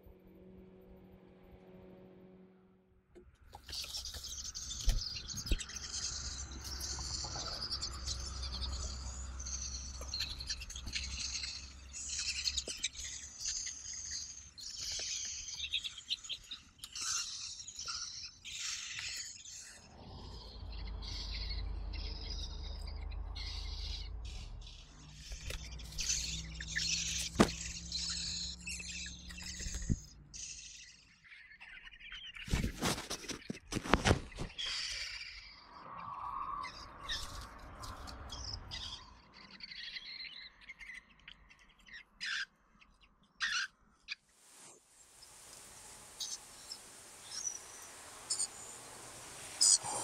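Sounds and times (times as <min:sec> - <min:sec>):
nestlings begging calls: 0:03.6 - 0:33.0, 0:34.4 - 0:44.1, 0:45.2 - 0:50.0.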